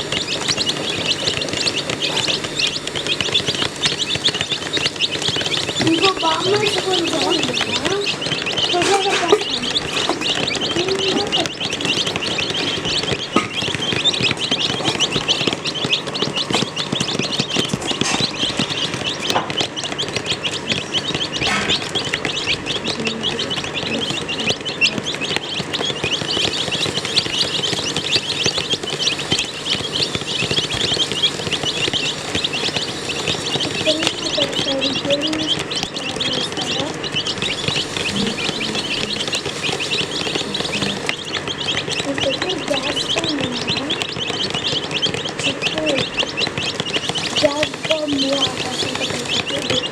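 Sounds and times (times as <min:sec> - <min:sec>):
baby chicks peeping: 0:00.0 - 0:49.9.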